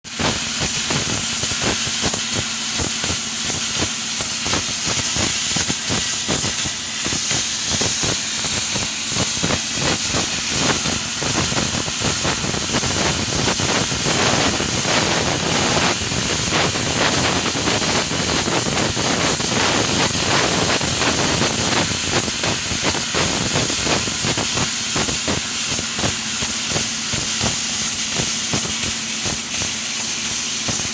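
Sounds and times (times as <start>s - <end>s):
laser cutter gas hissing and crackling: 0.0s - 30.9s.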